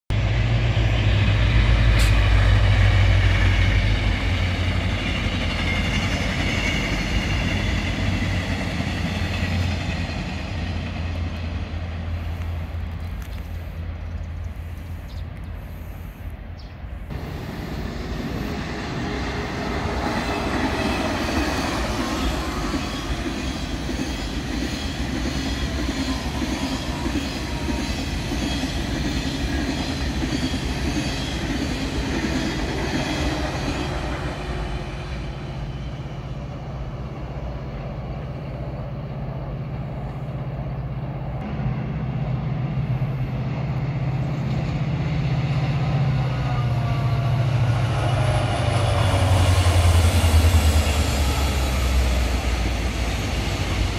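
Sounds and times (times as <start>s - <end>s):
high-speed train running past: 0.1s - 53.9s
passing train: 0.1s - 53.9s.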